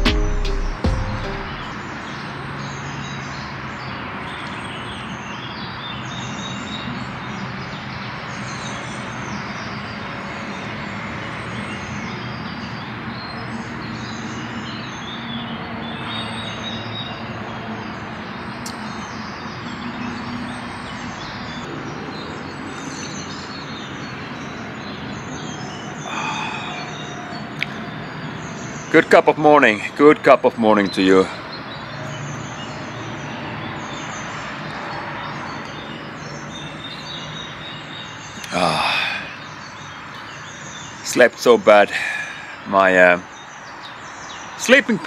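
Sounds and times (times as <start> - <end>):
birds singing and chirping: 0.0 - 45.0.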